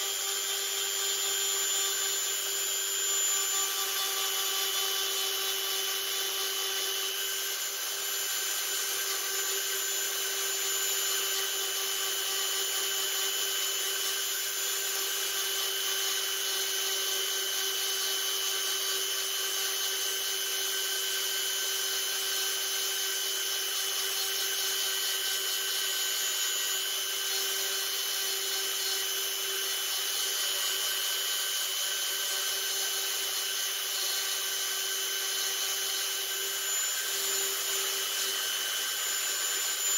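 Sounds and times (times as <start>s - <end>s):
rotary tool sanding wood: 0.0s - 39.9s.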